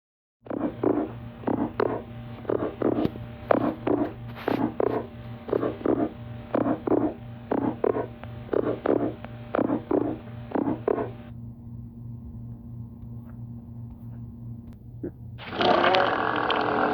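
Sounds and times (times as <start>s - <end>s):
steady low hum: 0.4s - 16.9s.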